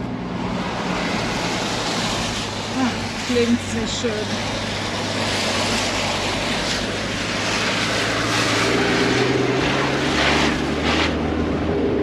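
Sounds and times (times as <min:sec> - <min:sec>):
diesel engine pulling: 0:00.0 - 0:12.0
water splashing against vehicle: 0:00.0 - 0:12.0.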